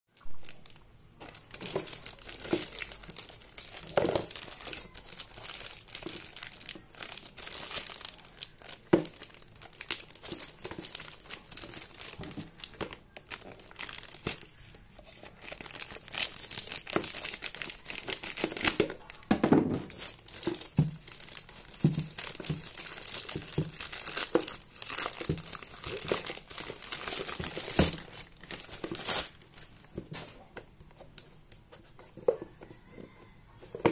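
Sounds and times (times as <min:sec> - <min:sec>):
plastic bag crinkling and tearing: 0:00.2 - 0:30.4.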